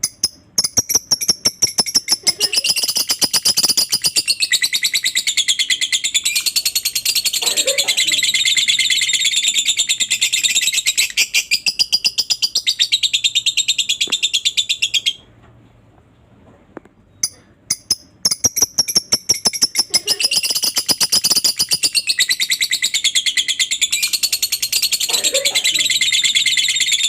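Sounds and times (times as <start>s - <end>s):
lovebird chattering song: 0.0s - 15.2s, 17.2s - 27.0s.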